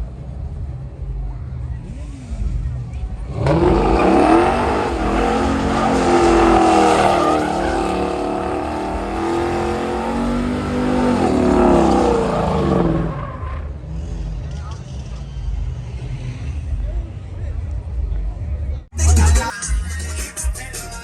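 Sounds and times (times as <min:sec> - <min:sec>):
car engine revving: 0:00.0 - 0:18.2.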